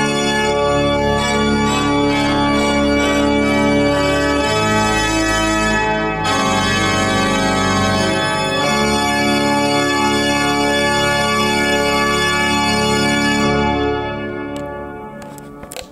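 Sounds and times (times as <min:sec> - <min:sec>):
pipe organ sustained chords: 0:00.0 - 0:15.7
church reverberation: 0:00.0 - 0:15.9.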